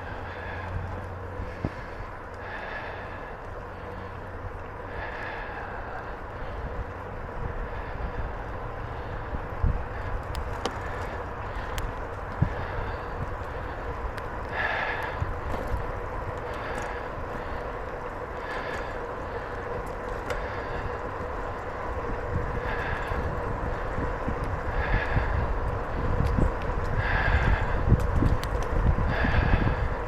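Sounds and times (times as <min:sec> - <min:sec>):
bicycle tyre and wind rumble: 0:00.0 - 0:30.0.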